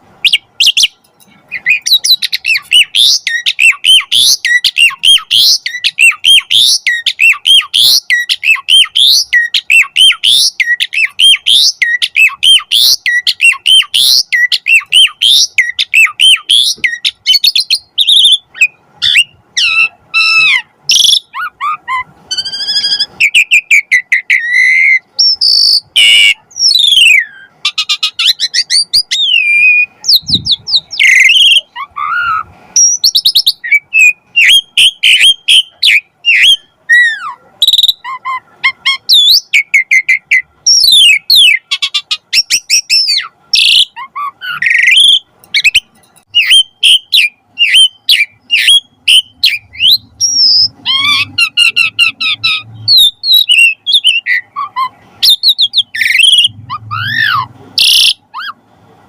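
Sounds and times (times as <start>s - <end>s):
myna singing chirps and whistles: 0.2s - 58.7s.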